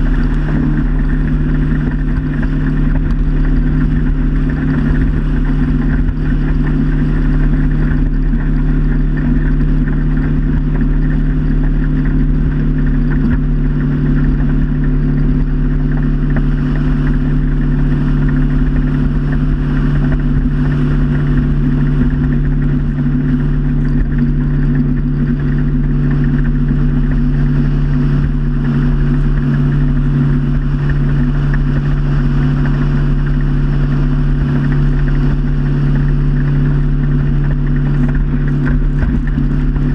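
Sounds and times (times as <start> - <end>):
motorboat engine drone: 0.0 - 39.9.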